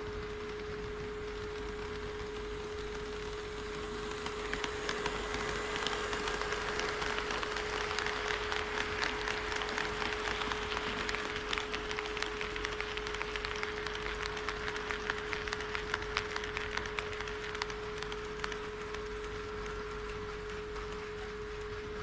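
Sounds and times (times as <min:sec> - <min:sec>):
model train rolling: 0:00.0 - 0:22.0
steady hum: 0:00.0 - 0:22.0.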